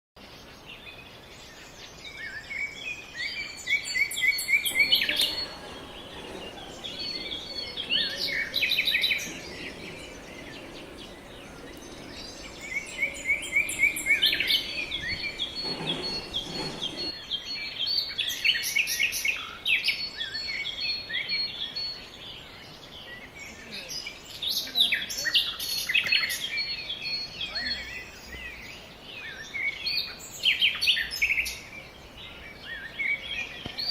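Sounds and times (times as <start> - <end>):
songbirds singing and chirping: 0.2 - 33.9.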